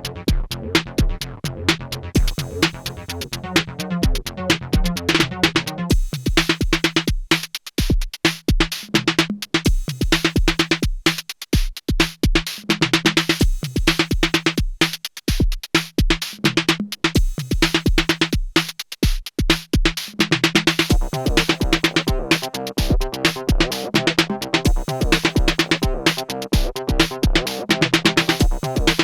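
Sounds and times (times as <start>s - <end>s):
fast high ticking percussion: 0.0s - 29.0s
kick drum: 0.1s - 3.1s, 4.0s - 29.0s.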